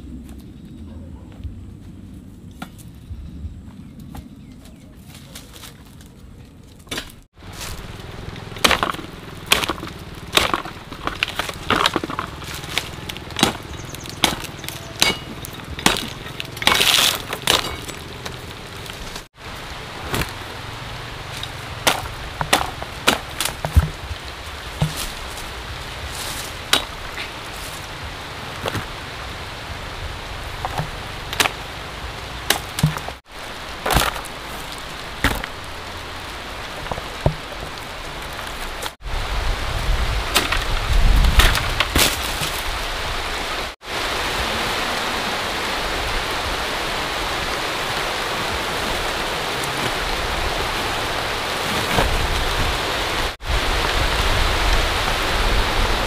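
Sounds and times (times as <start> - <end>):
heavy rain falling: 7.3 - 56.0.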